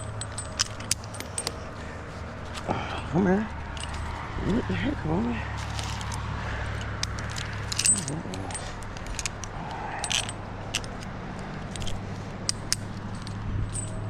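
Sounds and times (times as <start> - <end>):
metal hardware clinking and jingling: 0.0 - 14.0
steady low hum: 0.0 - 14.0.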